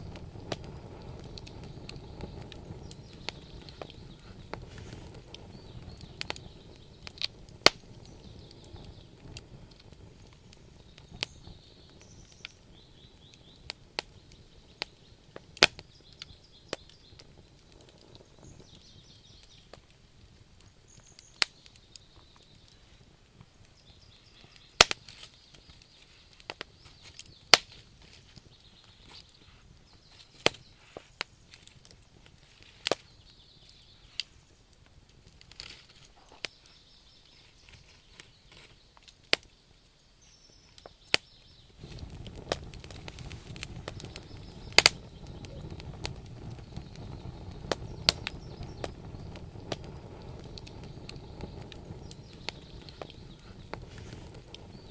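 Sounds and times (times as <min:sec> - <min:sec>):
low rumble of flames: 0:00.0 - 0:36.6, 0:41.0 - 0:54.9
campfire crackling and popping: 0:00.0 - 0:54.9
faint fire hiss: 0:00.0 - 0:54.9.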